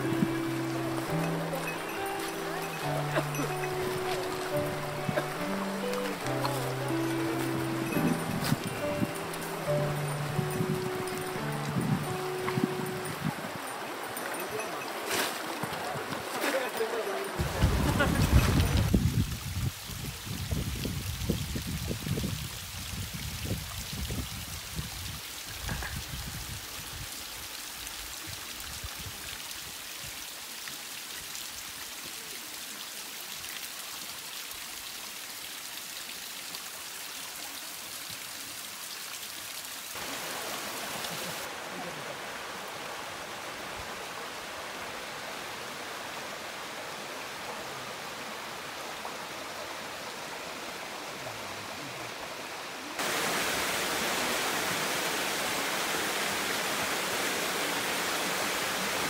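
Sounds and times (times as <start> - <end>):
mountain stream rushing over rocks: 0.0 - 59.0.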